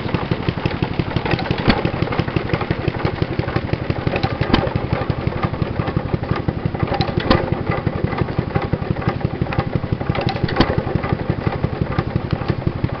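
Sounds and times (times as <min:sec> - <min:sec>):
engine sharp crack: 0:00.0 - 0:13.0
stationary engine running: 0:00.0 - 0:13.0.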